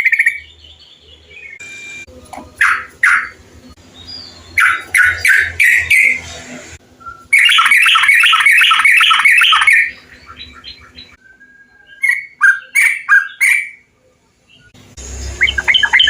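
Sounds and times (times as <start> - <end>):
bulbul singing: 0.0 - 6.3, 6.9 - 16.0.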